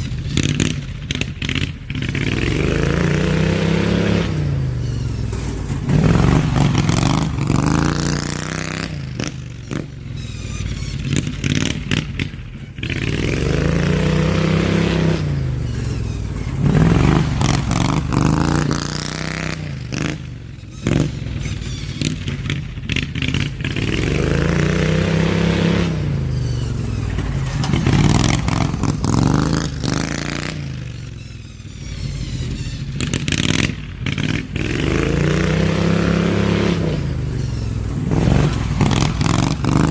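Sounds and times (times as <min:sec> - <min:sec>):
lawn tractor engine revving: 0:00.0 - 0:39.9.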